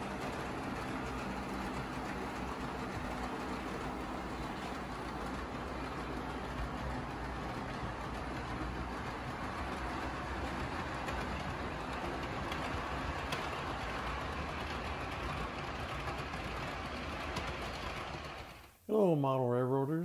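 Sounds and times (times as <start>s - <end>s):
model train running on track: 0.0s - 18.8s
wheels clicking on rails: 0.0s - 18.8s.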